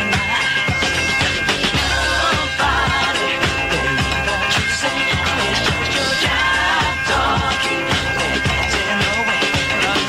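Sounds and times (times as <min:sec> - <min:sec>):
pop song on radio: 0:00.0 - 0:10.0.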